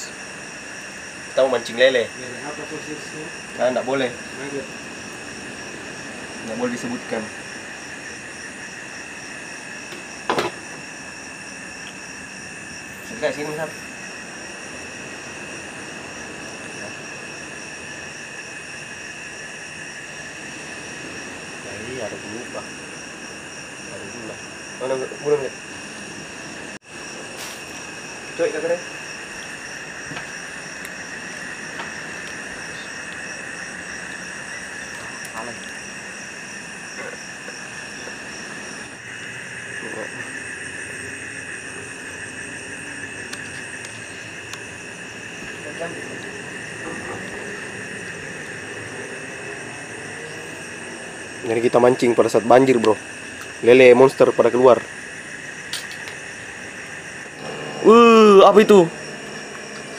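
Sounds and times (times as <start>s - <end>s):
constant hiss: 0.0s - 59.9s
insects shrill chorus: 0.0s - 59.9s
short frog calls: 0.0s - 59.9s.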